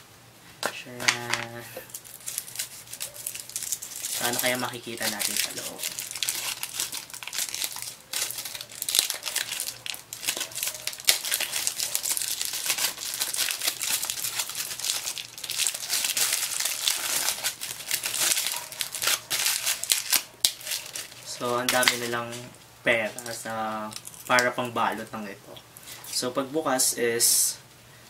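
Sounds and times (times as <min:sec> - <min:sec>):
foil wrapper crinkling: 0:01.0 - 0:25.2.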